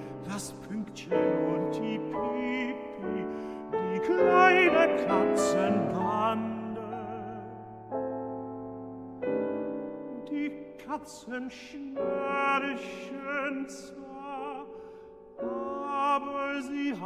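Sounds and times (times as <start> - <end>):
person singing with vibrato: 0.0 - 8.0, 9.3 - 17.0
soft piano chords: 0.0 - 17.0.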